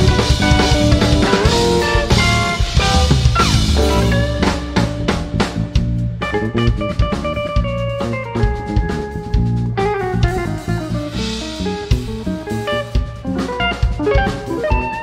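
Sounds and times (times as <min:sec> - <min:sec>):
drum kit: 0:00.0 - 0:15.0
electric bass: 0:00.0 - 0:15.0
electric guitar fast melody: 0:00.0 - 0:15.0.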